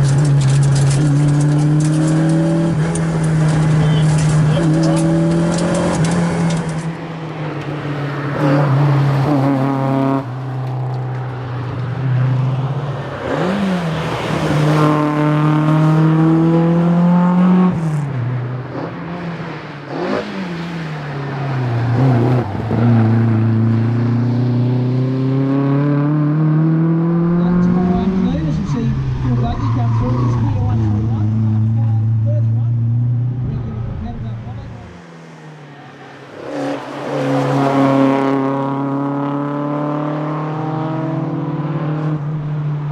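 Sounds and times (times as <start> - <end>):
car engine accelerating: 0.0 - 42.9.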